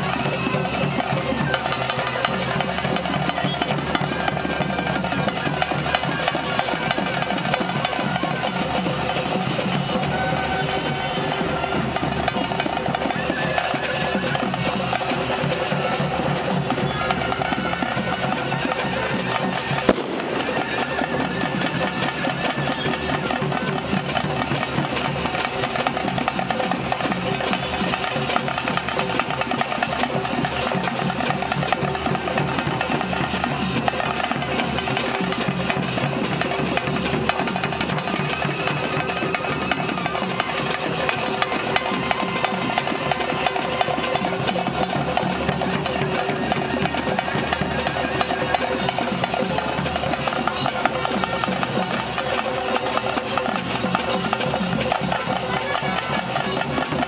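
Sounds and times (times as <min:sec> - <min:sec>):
fast drumming and percussion: 0:00.0 - 0:57.0.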